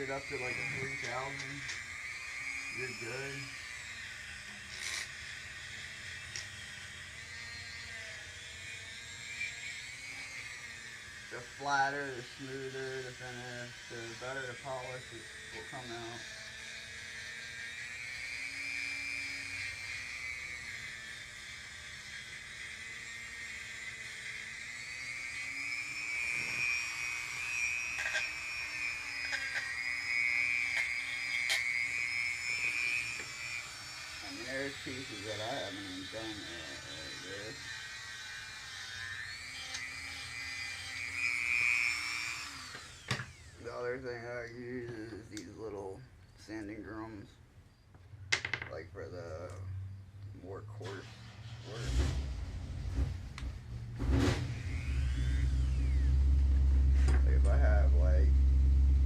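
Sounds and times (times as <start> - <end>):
high-pitched motor whine: 0.0 - 59.0.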